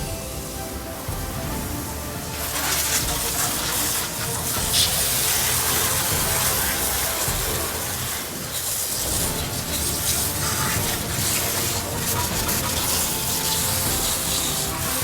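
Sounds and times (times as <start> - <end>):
water spraying: 0.0 - 15.0.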